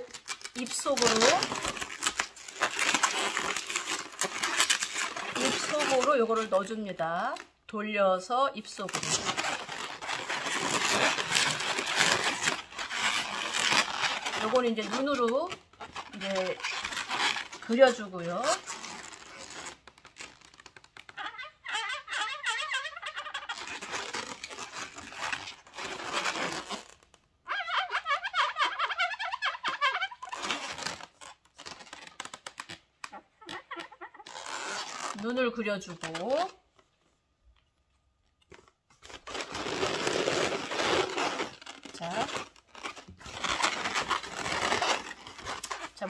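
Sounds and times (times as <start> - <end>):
balloons squeaking: 0.0 - 7.6, 8.6 - 37.8, 38.4 - 46.0
balloons rubbing and crinkling: 0.0 - 46.0.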